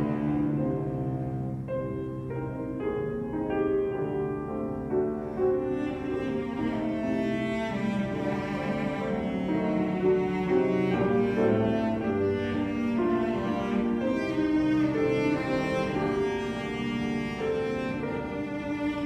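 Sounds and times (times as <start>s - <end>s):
cello melody: 0.0s - 19.0s
piano accompaniment: 0.0s - 19.0s.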